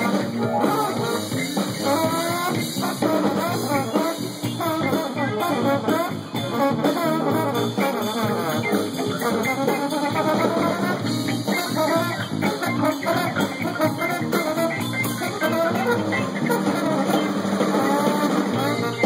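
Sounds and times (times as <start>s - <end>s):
electric guitar: 0.0s - 19.0s
live band music: 0.0s - 19.0s
trombone: 0.0s - 19.0s.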